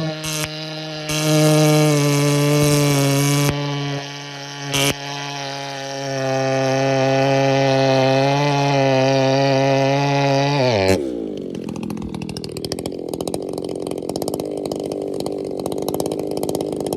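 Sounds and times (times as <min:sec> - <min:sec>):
chainsaw revving and idling: 0:00.0 - 0:16.9.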